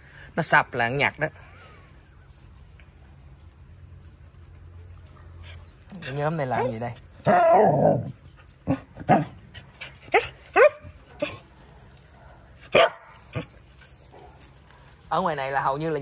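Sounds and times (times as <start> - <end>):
dogs barking and yipping: 1.6 - 16.0.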